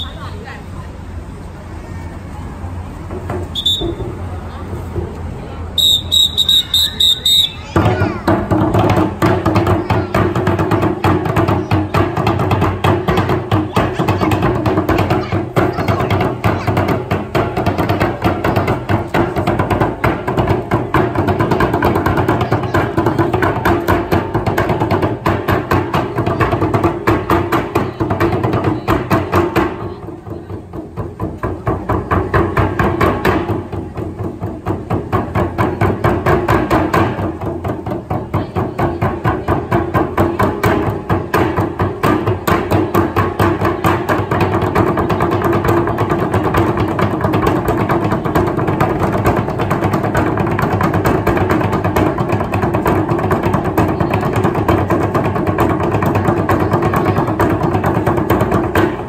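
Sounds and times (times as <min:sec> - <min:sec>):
group drumming on steel barrels: 0:03.0 - 0:05.2, 0:05.8 - 0:59.0.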